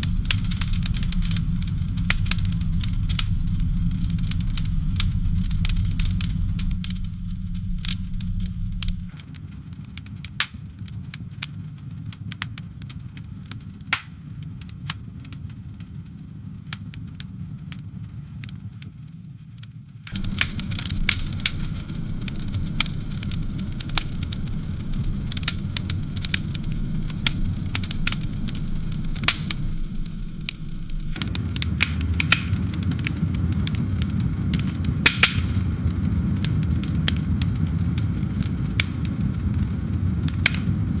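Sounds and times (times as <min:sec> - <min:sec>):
burning wood popping and snapping: 0:00.0 - 0:41.0
low rumble of flames: 0:00.0 - 0:41.0.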